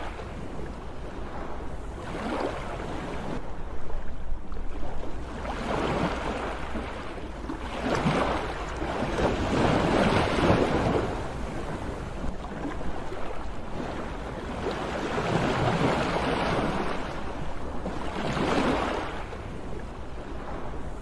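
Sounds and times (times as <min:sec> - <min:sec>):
sea waves breaking: 0:00.0 - 0:21.0.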